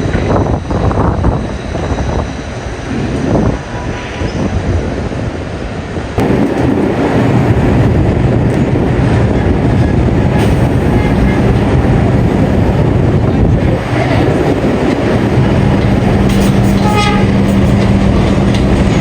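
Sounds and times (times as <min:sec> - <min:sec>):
subway train rumbling on rails: 0:00.0 - 0:19.0.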